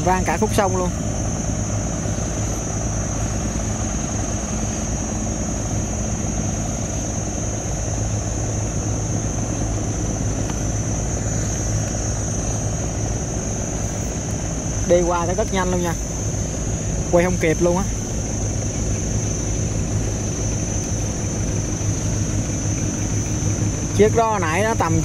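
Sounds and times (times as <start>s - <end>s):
diesel barge engine droning: 0.0s - 25.0s
steady high-pitched whine: 0.0s - 25.0s.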